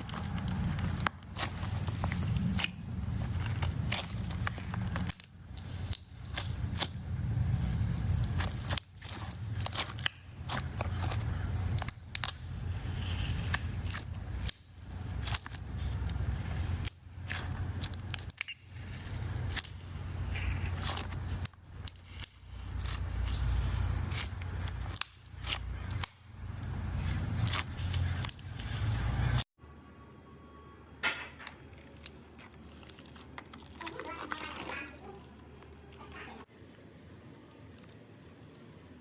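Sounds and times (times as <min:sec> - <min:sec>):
slime crackling and popping: 0:00.0 - 0:28.6, 0:31.9 - 0:36.4.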